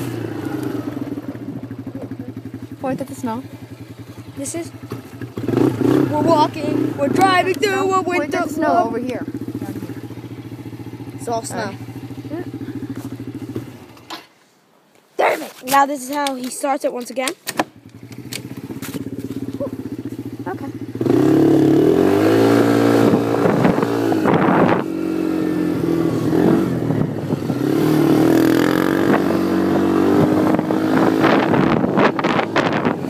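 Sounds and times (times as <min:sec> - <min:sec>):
atv engine idling and revving: 0:00.0 - 0:14.3, 0:15.2 - 0:33.0.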